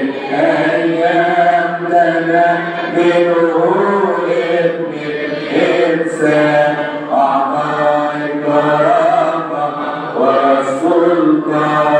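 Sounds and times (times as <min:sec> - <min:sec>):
man chanting a hymn: 0:00.0 - 0:11.9.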